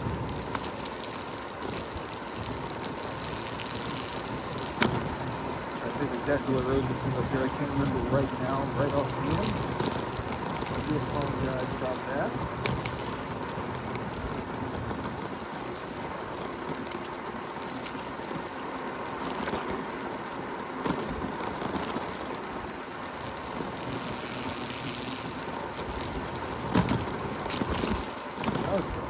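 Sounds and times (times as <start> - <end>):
electric scooter running: 0.0 - 29.0
faint steady whine: 0.0 - 29.0.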